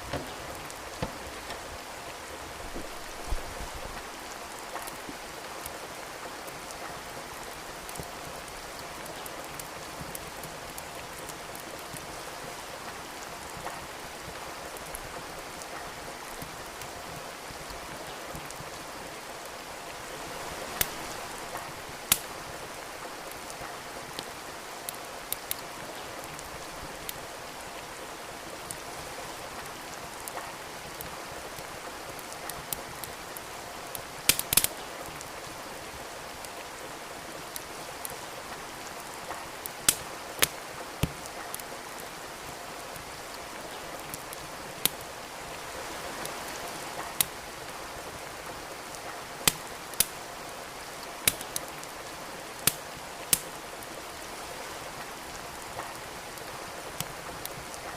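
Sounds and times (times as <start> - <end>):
wood fire crackling and popping: 0.0 - 18.8, 20.4 - 27.3, 28.6 - 35.6, 37.5 - 45.1, 46.2 - 53.8, 55.6 - 57.9
steady rain: 0.0 - 57.9.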